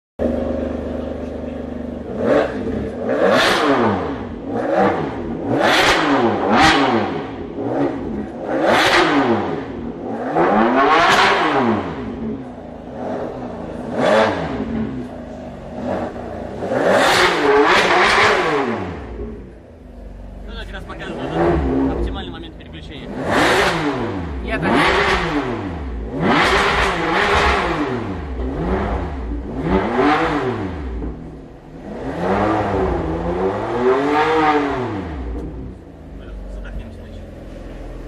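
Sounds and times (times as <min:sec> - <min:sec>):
car engine revving: 0:00.2 - 0:38.0.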